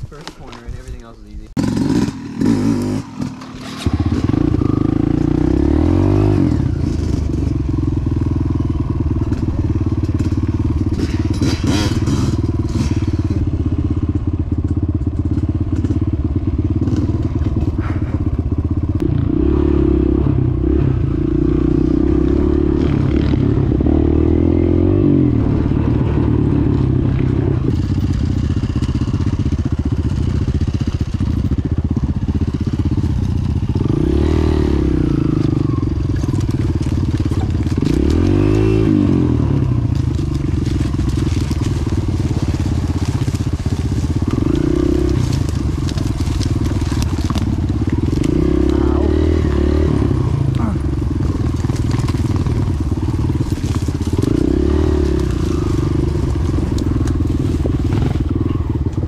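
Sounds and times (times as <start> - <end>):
dirt bike engine revving: 0.5 - 59.0.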